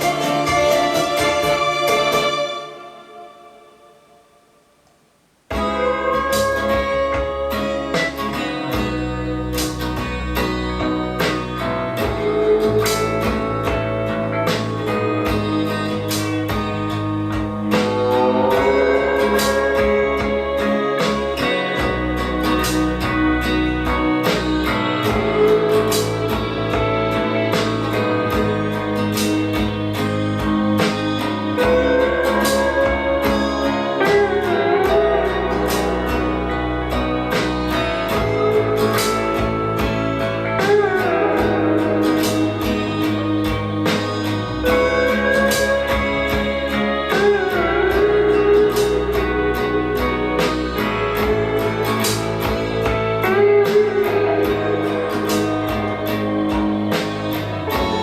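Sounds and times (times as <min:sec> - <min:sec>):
guitar music with steady beat: 0:00.0 - 0:03.6, 0:05.4 - 0:58.0.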